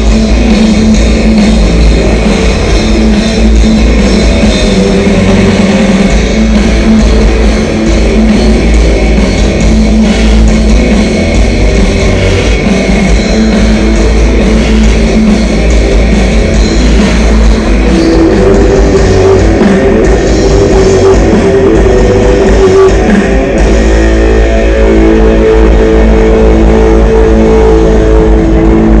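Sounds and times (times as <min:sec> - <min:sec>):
bass guitar: 0:00.0 - 0:29.0
drum kit playing: 0:00.0 - 0:29.0
electric guitars: 0:00.0 - 0:29.0.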